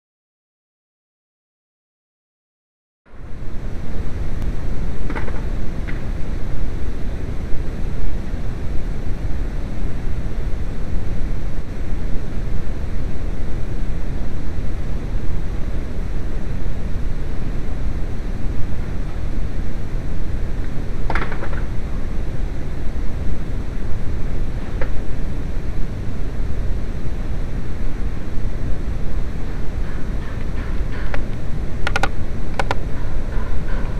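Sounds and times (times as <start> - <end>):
loud steady noise: 3.1 - 33.9.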